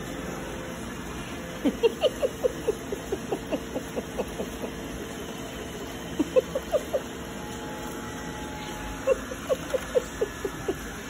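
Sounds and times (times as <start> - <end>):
robot vacuum humming: 1.3 - 11.0.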